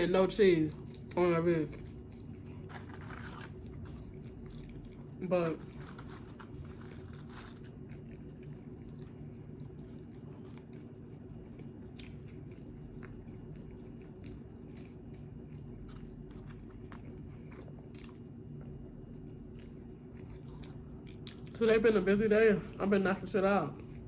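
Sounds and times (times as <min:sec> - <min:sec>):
person chewing food: 0:00.5 - 0:21.6, 0:23.8 - 0:24.0.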